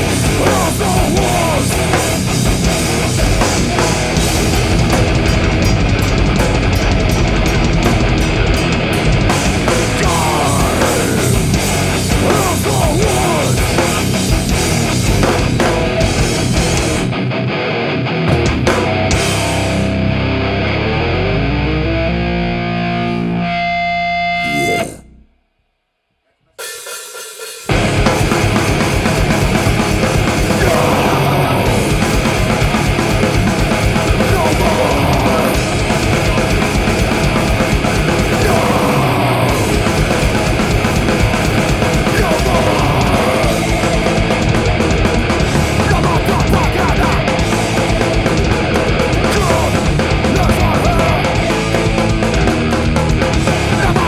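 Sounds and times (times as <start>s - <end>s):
heavy rock band playing: 0.0s - 25.0s, 26.6s - 54.0s.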